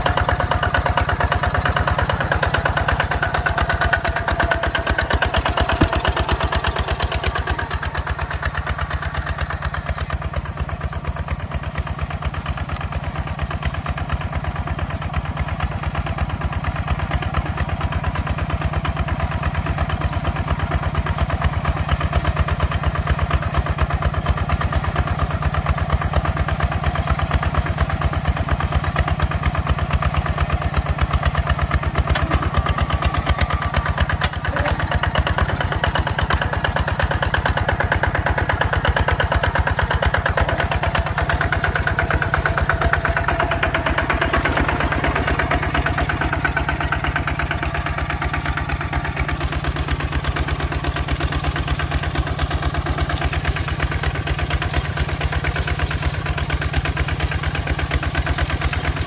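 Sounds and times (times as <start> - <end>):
tractor diesel engine chugging: 0.0 - 59.0.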